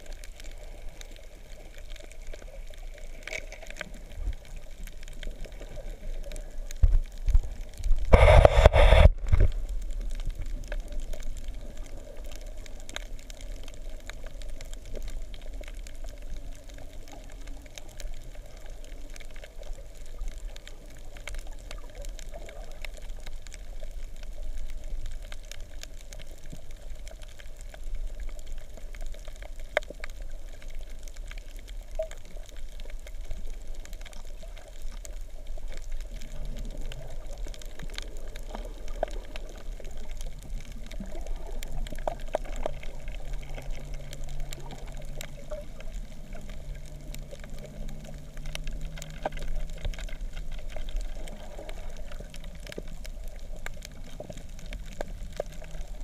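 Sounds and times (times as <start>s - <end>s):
muffled underwater wash: 0.0s - 56.0s.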